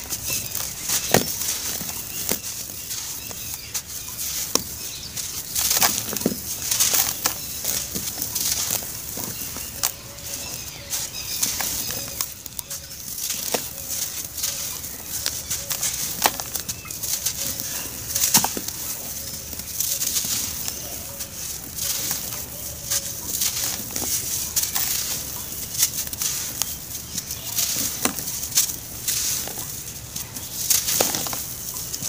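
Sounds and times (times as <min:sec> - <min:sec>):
lumps crunching: 0:00.0 - 0:32.0.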